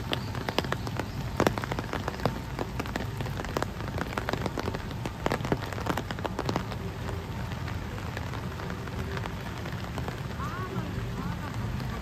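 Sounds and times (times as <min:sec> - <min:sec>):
raindrops striking close: 0:00.0 - 0:12.0
steady rain: 0:00.0 - 0:12.0.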